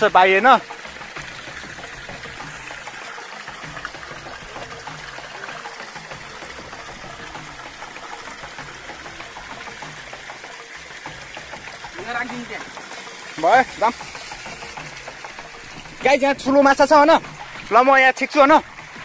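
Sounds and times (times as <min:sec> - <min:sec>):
stream water pouring over stones: 0:00.0 - 0:19.0.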